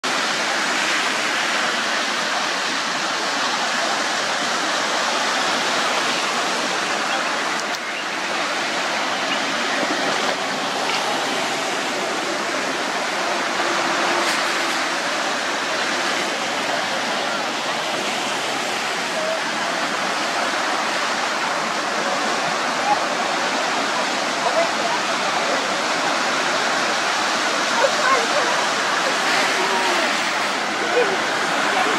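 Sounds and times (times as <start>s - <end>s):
vehicles splashing through floodwater: 0.0s - 31.9s.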